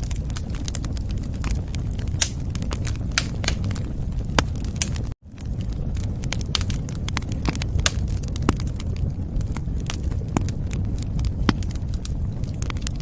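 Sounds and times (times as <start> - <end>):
burning fire noise: 0.0 - 13.0
fire pops and snaps: 0.0 - 13.0.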